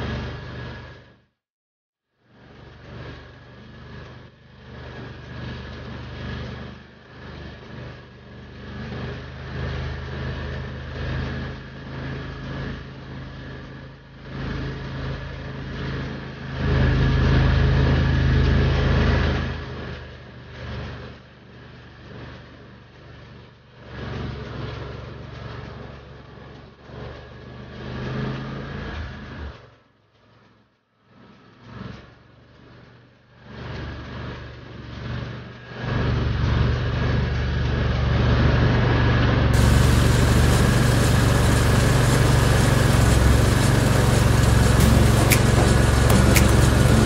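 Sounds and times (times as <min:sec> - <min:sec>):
amphibious atv engine running: 0:00.0 - 0:01.1, 0:02.4 - 0:30.5, 0:31.1 - 0:47.0.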